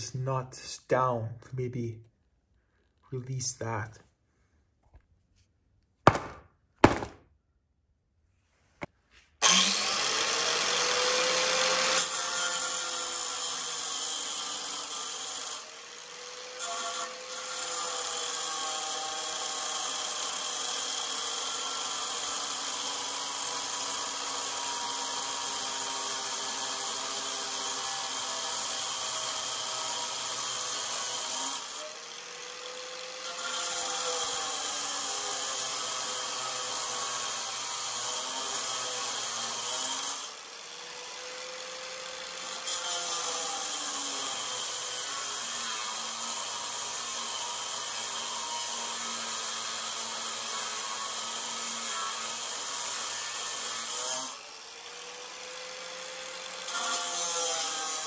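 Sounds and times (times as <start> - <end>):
angle grinder cutting steel: 9.4 - 58.0.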